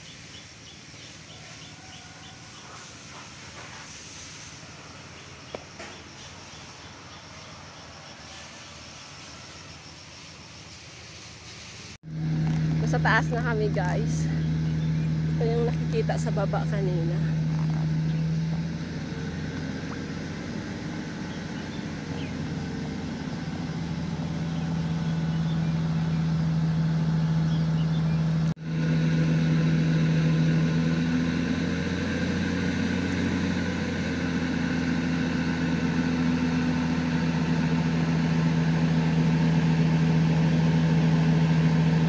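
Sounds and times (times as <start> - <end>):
vehicle engine humming: 0.0 - 42.0.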